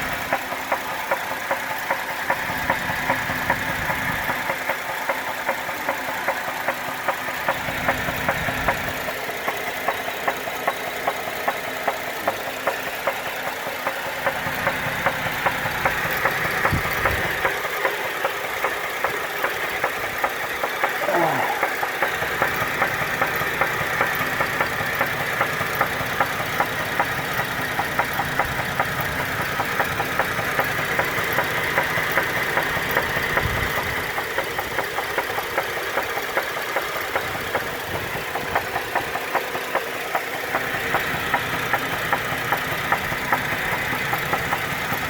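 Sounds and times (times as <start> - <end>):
car engine idling: 0.0 - 45.0
sharp regular engine knock: 0.0 - 45.0.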